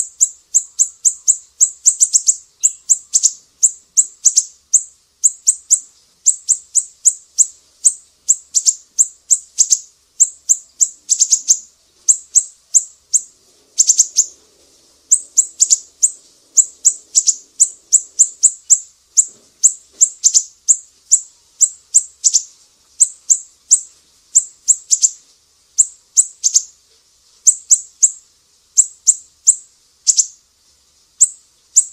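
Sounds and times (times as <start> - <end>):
cage birds chirping: 0.0 - 30.5, 31.2 - 31.9.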